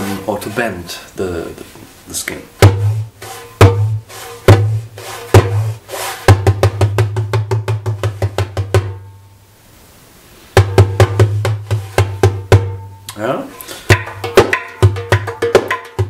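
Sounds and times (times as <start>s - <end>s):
darbuka strokes: 0.0s - 0.9s, 1.7s - 9.4s, 10.4s - 16.0s.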